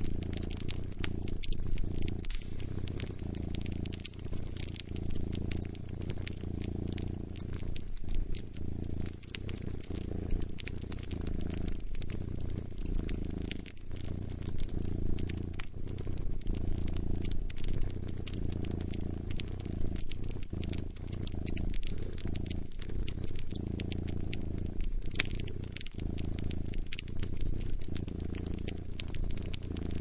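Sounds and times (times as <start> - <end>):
cat purring: 0.0 - 30.0
fire popping and crackling: 0.0 - 30.0.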